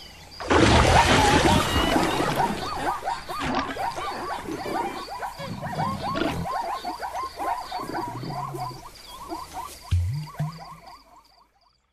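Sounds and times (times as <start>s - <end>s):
chirping animal calls: 1.4s - 11.2s.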